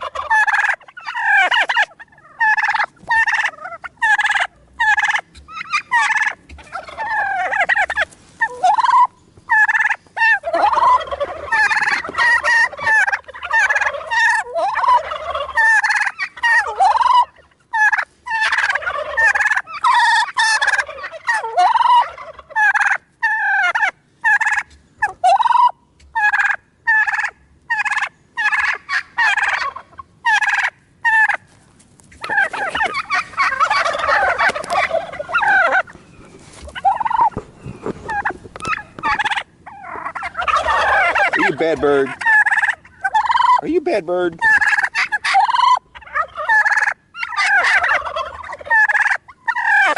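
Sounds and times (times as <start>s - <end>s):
turkeys gobbling: 0.0s - 49.9s.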